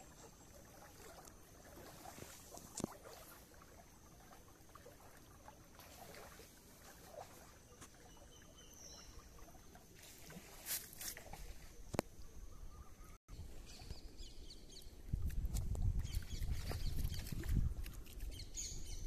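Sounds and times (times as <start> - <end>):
water lapping around boat: 0.0 - 19.0.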